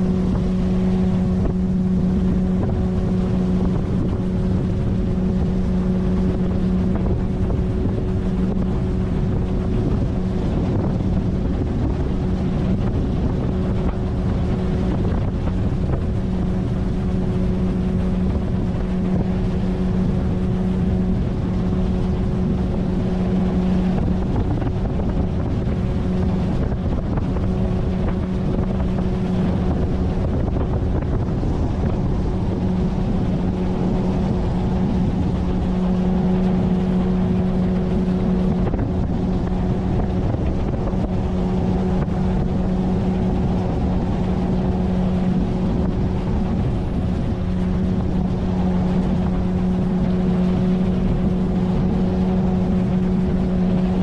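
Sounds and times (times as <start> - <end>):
outboard motor running: 0.0 - 54.0
water rushing along hull: 0.0 - 54.0
wind on microphone: 0.0 - 54.0.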